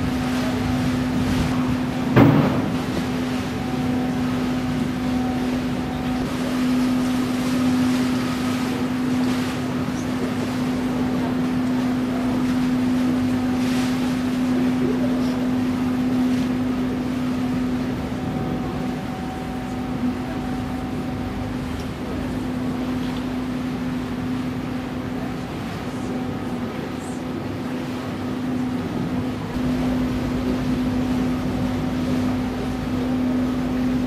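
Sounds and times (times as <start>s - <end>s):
ship machinery humming: 0.0s - 34.0s.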